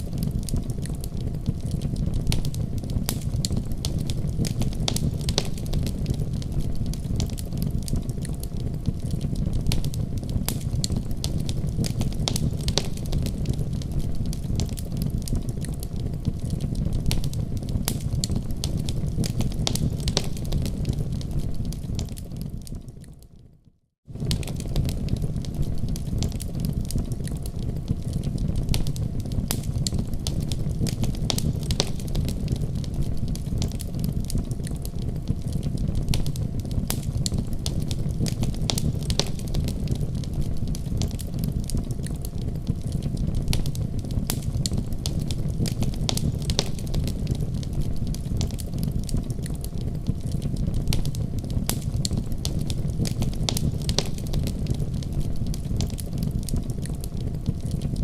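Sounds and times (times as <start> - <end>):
wood fire crackling in fireplace: 0.0 - 58.0.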